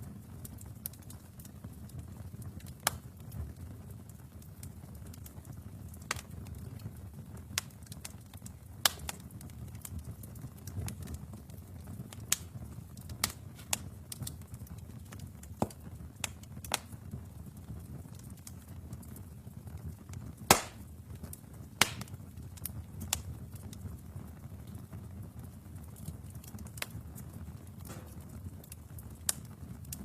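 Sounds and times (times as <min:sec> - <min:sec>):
fire crackles and pops: 0:00.0 - 0:30.0
low rumble of flames: 0:00.0 - 0:30.0.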